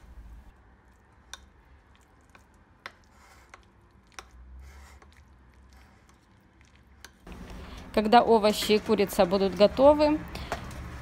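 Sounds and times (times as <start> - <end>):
spoon stirring soft food: 0.5 - 11.0.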